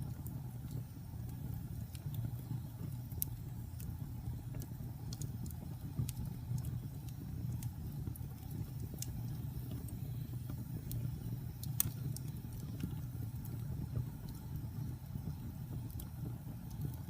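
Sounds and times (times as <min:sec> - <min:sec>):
fire flames rumbling: 0:00.0 - 0:17.0
wood fire crackling and popping: 0:00.0 - 0:17.0.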